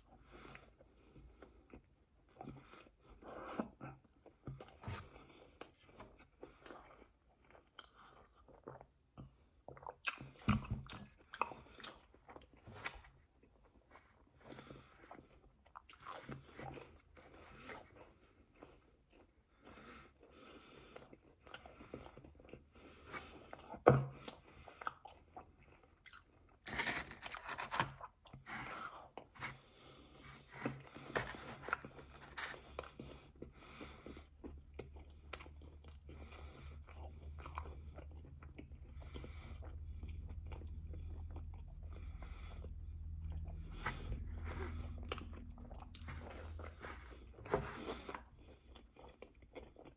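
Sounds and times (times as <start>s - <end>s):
chewing and crunching pizza: 0.0s - 49.9s.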